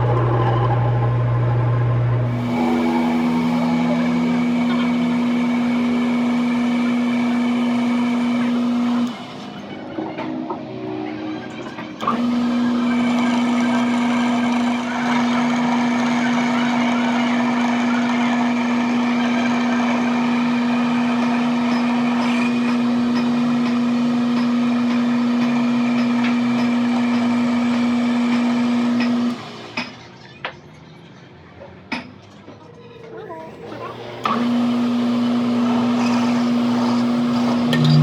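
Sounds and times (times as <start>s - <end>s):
machine humming: 0.0s - 28.9s, 33.5s - 38.0s.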